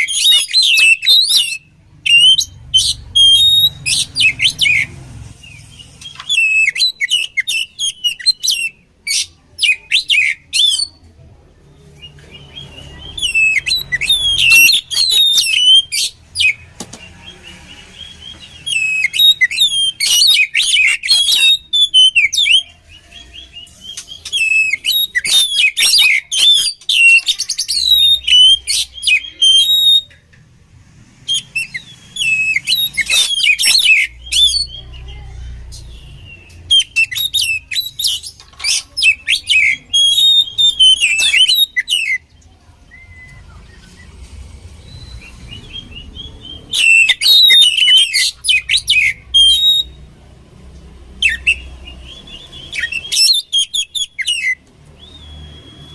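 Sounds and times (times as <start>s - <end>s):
bird singing whistled phrases: 0.0s - 11.0s, 12.0s - 30.2s, 31.3s - 35.1s, 35.9s - 42.3s, 42.9s - 44.2s, 44.9s - 50.1s, 51.2s - 55.9s.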